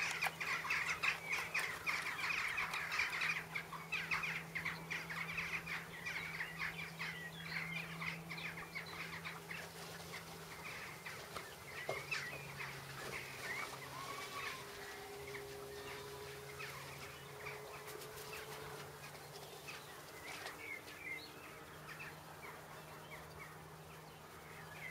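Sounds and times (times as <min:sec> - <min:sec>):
birds chirping and singing: 0:00.0 - 0:24.9.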